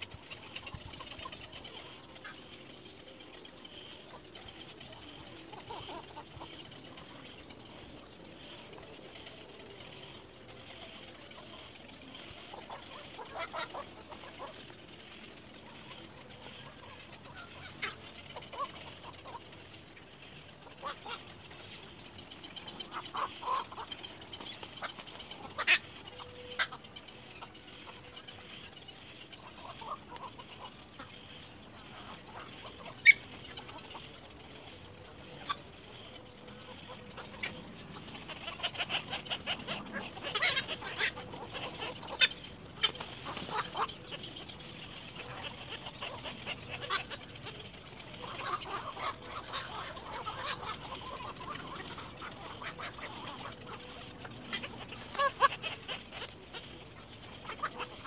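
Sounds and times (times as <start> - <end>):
birds clucking and chattering: 0.0 - 58.0.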